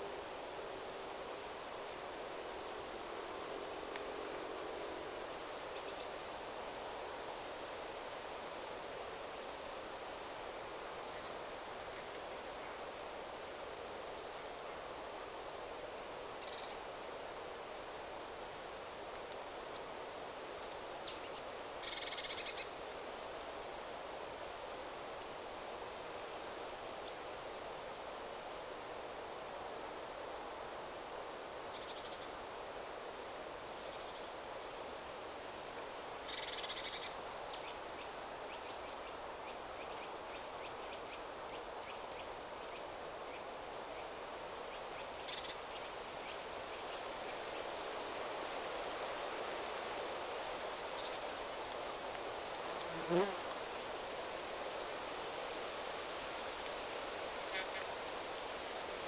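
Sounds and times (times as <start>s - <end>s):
wind rustling through trees: 0.0s - 59.0s.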